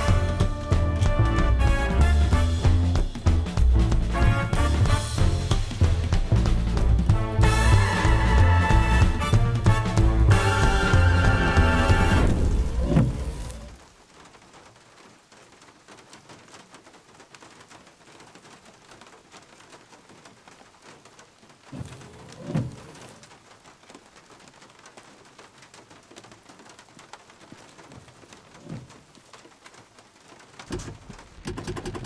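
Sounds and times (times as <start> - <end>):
rain pattering on a vehicle roof: 0.0 - 32.0.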